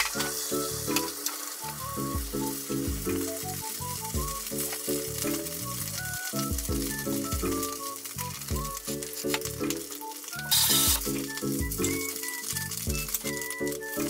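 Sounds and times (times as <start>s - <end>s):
background music: 0.0s - 14.0s
egg sizzling in a pan: 0.0s - 14.0s.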